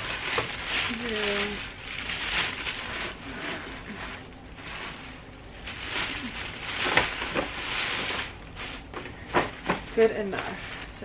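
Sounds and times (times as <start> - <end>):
tissue paper rustling and crinkling: 0.0 - 11.0.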